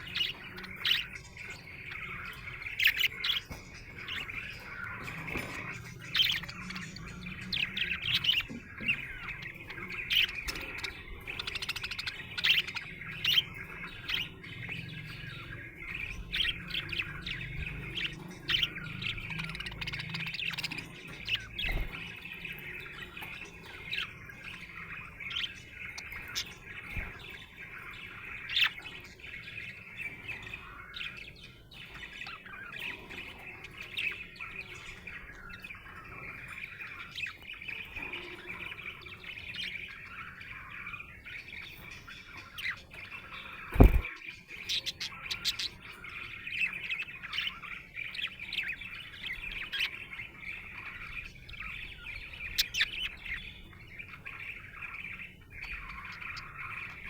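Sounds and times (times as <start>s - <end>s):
budgerigar chattering and warbling: 0.0s - 57.0s
sharp bird chirps: 0.0s - 57.0s.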